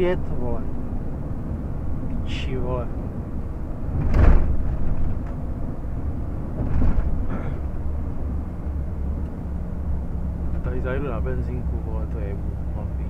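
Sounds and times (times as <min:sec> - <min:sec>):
truck diesel engine and road drone: 0:00.0 - 0:13.0.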